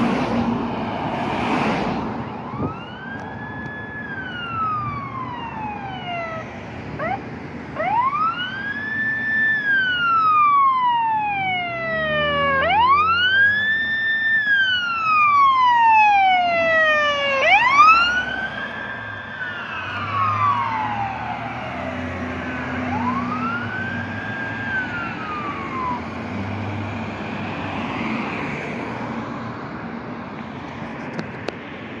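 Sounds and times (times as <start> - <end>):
road traffic noise: 0.0 - 32.0
vehicle rumbling on road: 0.0 - 32.0
ambulance siren wailing: 2.1 - 28.7.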